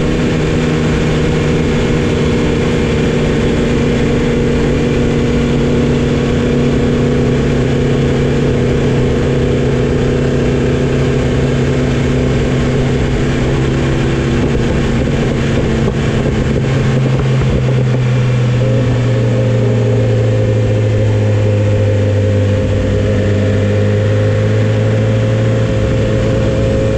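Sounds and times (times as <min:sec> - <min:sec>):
motorcycle engine running: 0:00.0 - 0:26.9
wind noise: 0:00.0 - 0:26.9.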